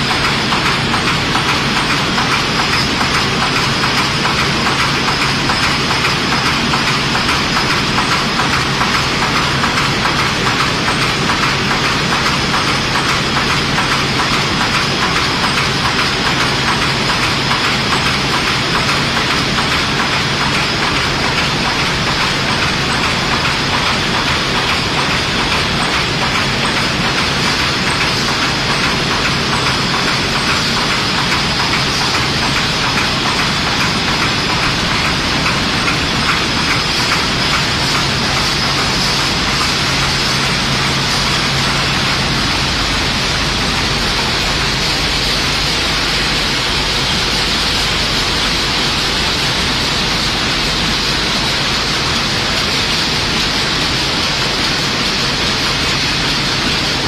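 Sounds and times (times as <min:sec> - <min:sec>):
constant machine hum: 0:00.0 - 0:57.0
machine mechanical clatter: 0:00.0 - 0:57.0.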